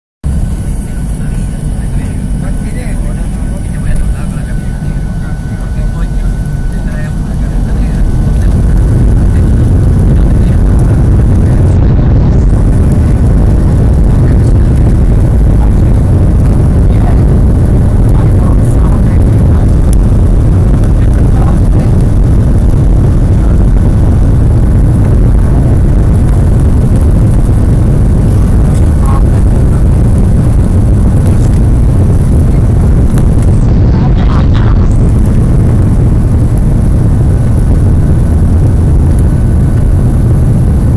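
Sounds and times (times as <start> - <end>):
jet engines roaring: 0.2 - 40.9.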